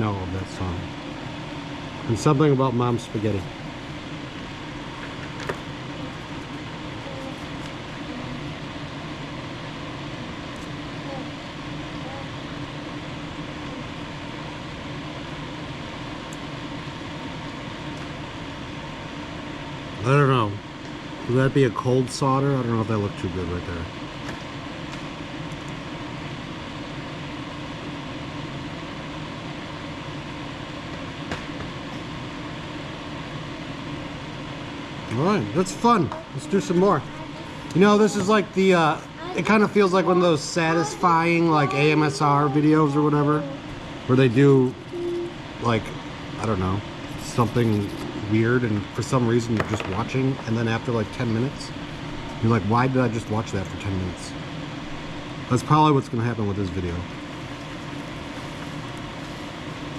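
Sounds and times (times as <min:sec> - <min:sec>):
fan-like whooshing hum: 0:00.0 - 0:59.9.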